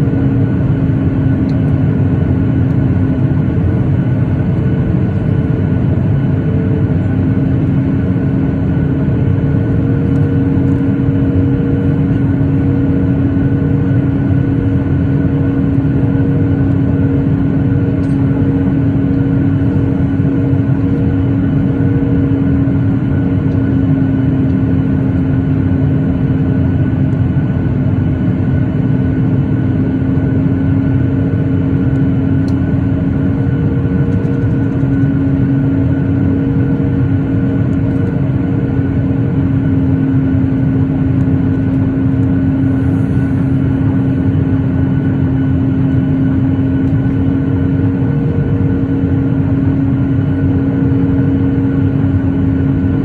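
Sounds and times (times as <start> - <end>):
airliner engines: 0.0 - 53.0
constant low hum: 0.0 - 53.0.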